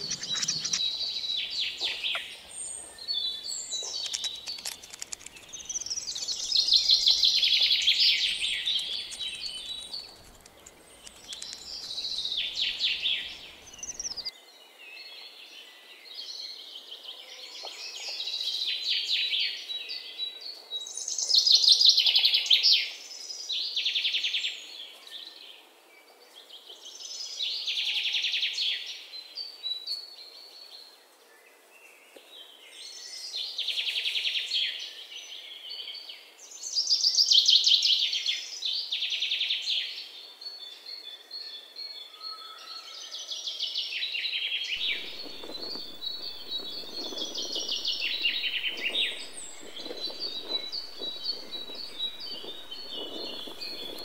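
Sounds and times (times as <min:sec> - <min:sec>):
songbirds chirping: 0:00.0 - 0:21.6, 0:28.5 - 0:54.0.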